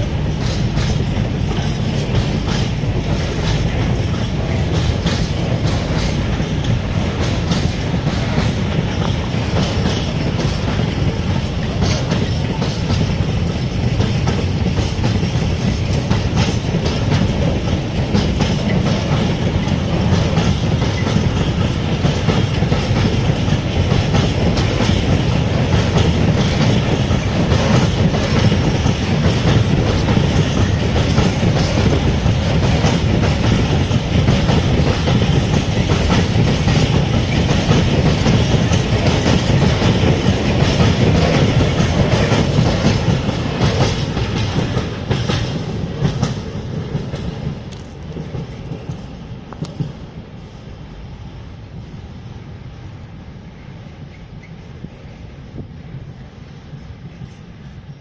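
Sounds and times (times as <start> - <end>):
wheels clicking over rail joints: 0.0 - 49.9
freight train rumble: 0.0 - 58.0.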